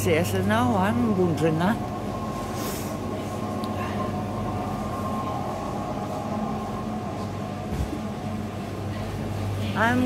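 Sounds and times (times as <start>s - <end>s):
mechanical hum and rumble: 0.0s - 10.0s.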